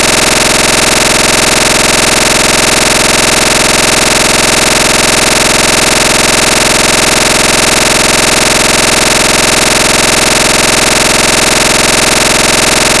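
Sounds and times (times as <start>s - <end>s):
loud electronic buzz: 0.0s - 13.0s.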